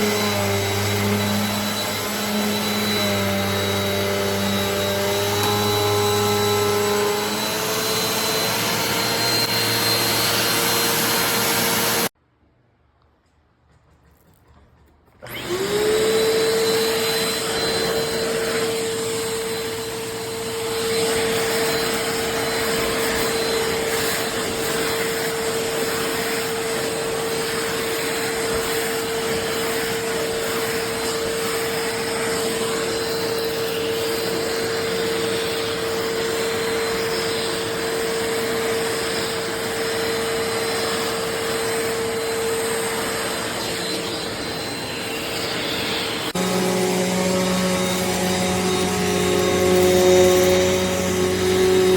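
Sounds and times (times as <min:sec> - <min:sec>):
vacuum cleaner motor whine: 0:00.0 - 0:12.2, 0:15.2 - 0:51.9.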